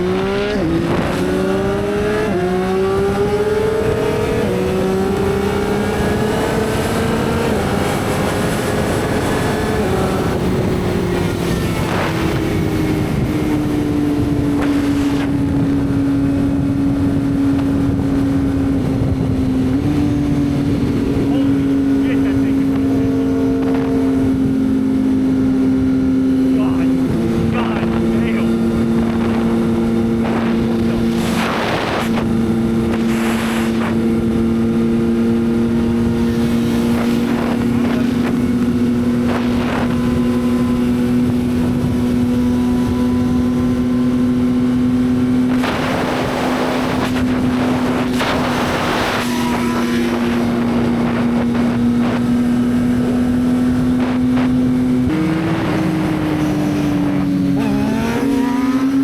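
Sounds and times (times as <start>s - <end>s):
motorcycle engine cruising: 0.0s - 59.0s
wind rushing: 0.0s - 59.0s.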